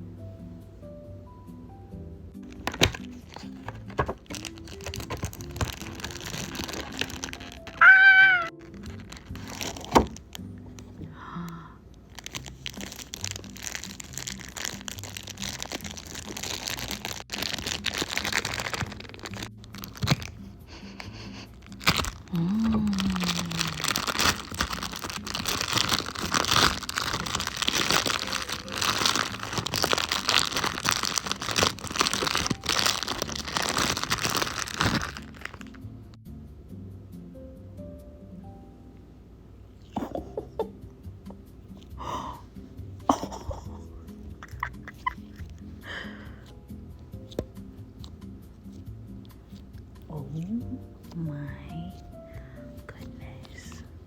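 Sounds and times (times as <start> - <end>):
soft background music: 0.0 - 54.0
squishy toy crinkling and crunching: 2.4 - 11.1, 11.9 - 35.9, 43.1 - 54.0.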